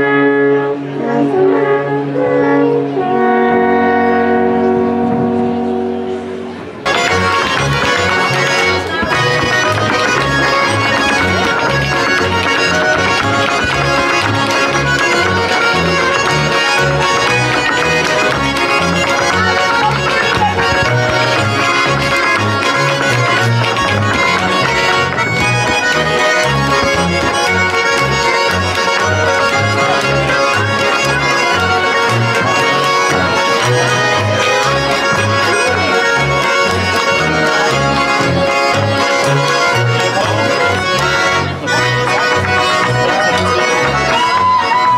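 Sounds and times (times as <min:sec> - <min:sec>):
accordion folk dance music: 0:00.0 - 0:44.9
bouncing bass line: 0:04.2 - 0:44.9.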